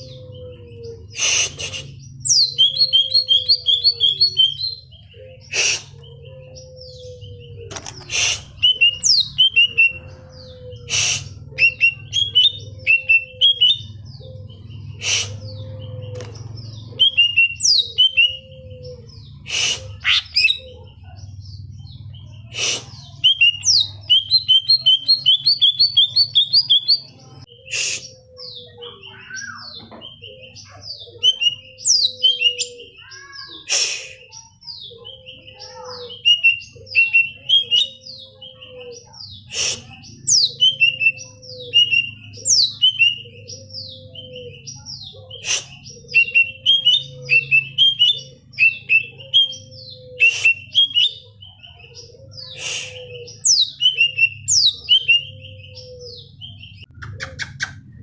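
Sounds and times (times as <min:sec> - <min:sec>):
bird singing rapid chatter: 0:00.0 - 0:58.0.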